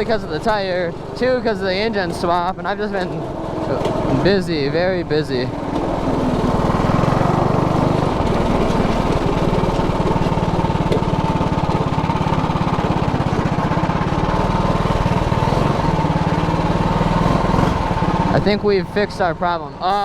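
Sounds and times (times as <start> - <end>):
go-kart engine running: 0.0 - 20.0.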